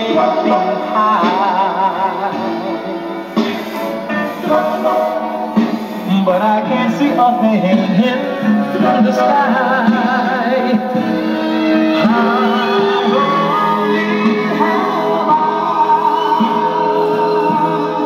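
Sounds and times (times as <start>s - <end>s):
song on record player: 0.0s - 18.0s.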